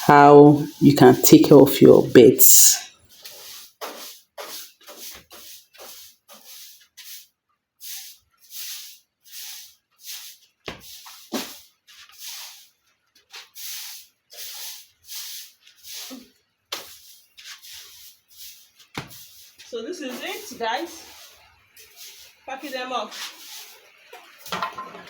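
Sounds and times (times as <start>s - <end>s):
scraping strokes across a floor: 3.0s - 24.6s.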